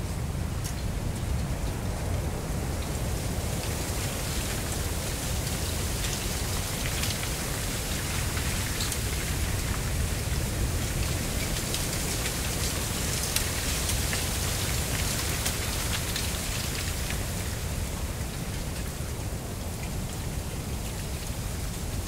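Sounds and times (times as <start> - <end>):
low wind rumble: 0.0 - 22.0.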